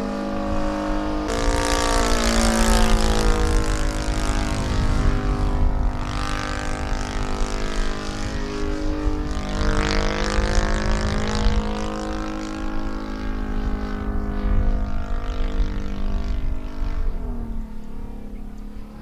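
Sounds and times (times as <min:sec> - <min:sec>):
model airplane engine: 0:00.0 - 0:19.0.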